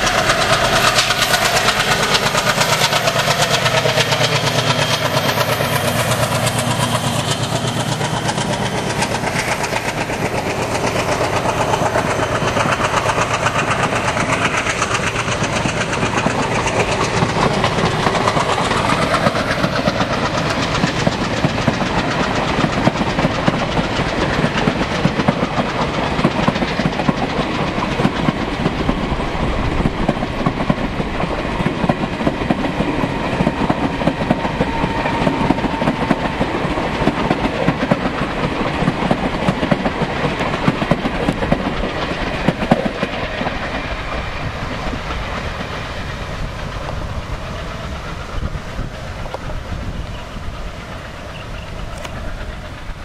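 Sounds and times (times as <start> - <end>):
train wheels clattering over rail joints: 0.0 - 53.0.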